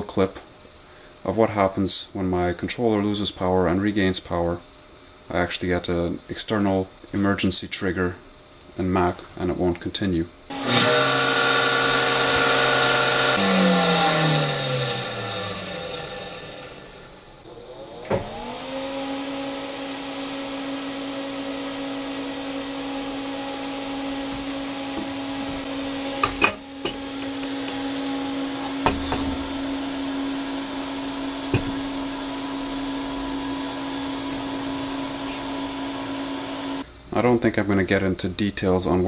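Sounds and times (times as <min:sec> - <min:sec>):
cooling fan humming: 0:00.0 - 0:39.0.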